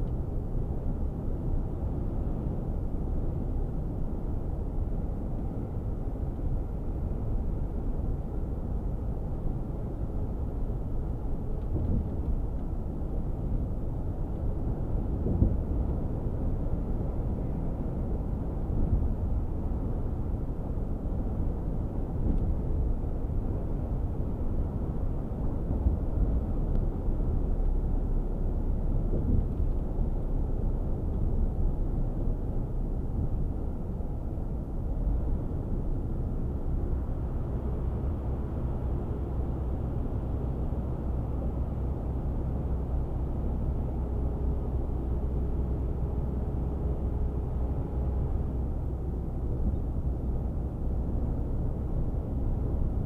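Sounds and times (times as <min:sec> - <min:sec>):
truck cab engine and road drone: 0:00.0 - 0:53.0.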